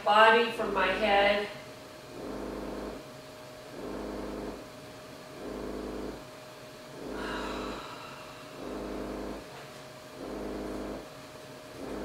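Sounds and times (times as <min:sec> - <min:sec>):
vibration motor humming in bursts: 0:00.6 - 0:12.0.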